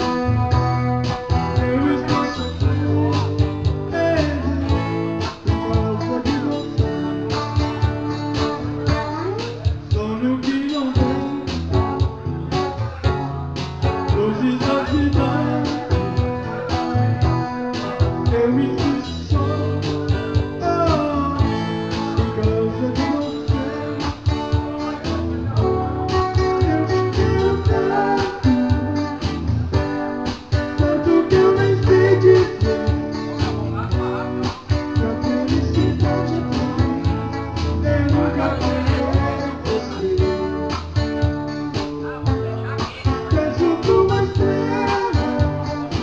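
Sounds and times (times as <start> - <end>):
live band with guitar: 0.0 - 46.0.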